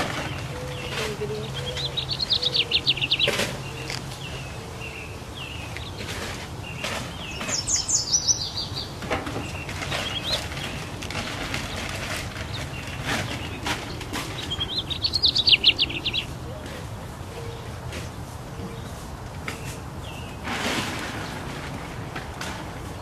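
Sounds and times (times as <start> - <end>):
songbirds singing: 0.0 - 23.0.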